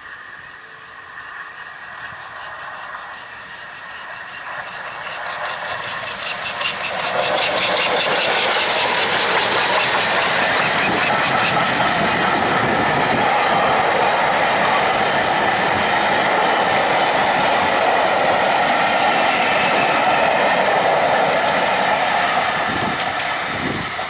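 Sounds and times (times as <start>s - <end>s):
steam locomotive exhaust beats: 0.0s - 24.0s
train coaches passing: 0.0s - 24.0s.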